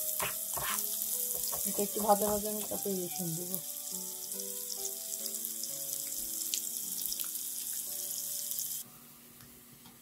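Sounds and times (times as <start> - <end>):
onions sizzling in hot oil: 0.0 - 8.8
slow background music: 0.0 - 10.0.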